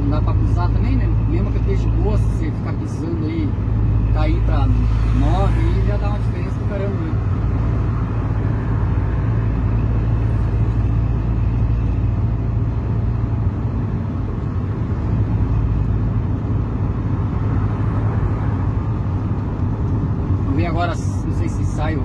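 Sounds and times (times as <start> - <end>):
engine and road noise in truck cab: 0.0 - 22.0.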